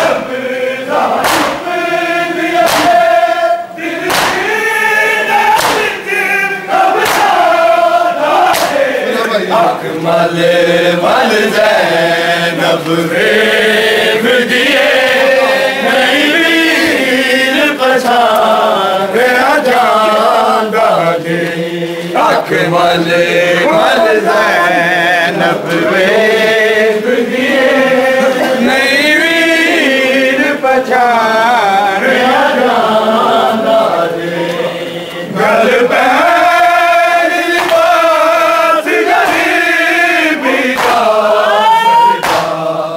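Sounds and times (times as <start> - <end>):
voices chanting a lament: 0.0 - 42.9.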